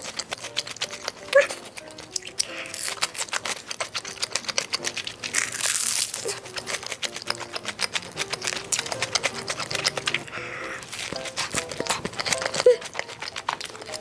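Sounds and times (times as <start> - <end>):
chewing rice cake: 0.0 - 14.0
mouth clicks and smacks: 0.0 - 14.0
rustling crinkle: 0.0 - 14.0.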